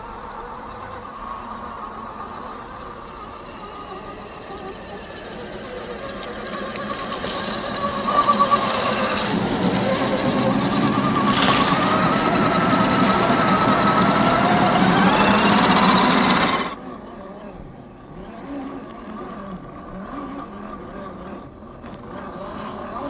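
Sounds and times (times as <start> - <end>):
electric motor and gear whine: 0.0 - 23.0.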